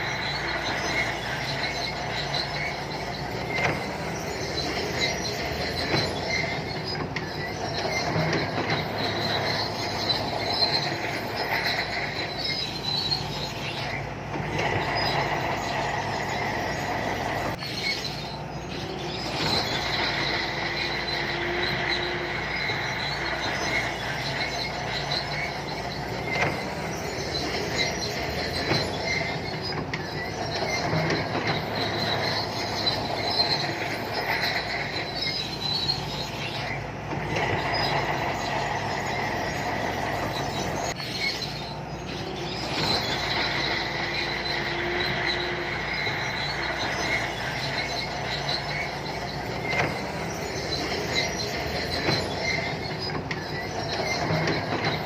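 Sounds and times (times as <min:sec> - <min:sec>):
bulldozer diesel engine running: 0:00.0 - 0:55.0
steel tracks squealing and clattering: 0:00.0 - 0:55.0.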